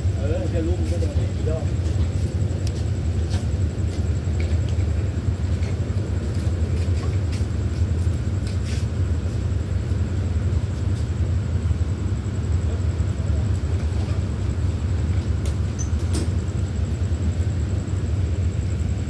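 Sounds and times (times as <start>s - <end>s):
diesel train engines rumbling: 0.0s - 19.0s.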